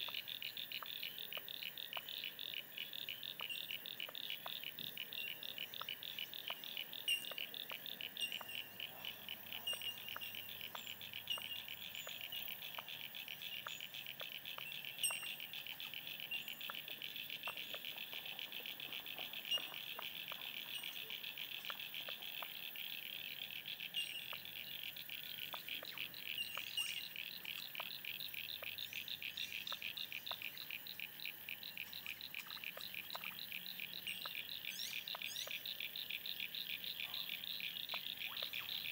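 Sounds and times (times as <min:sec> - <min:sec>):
small birds chirping: 0:00.0 - 0:22.7, 0:23.9 - 0:38.9.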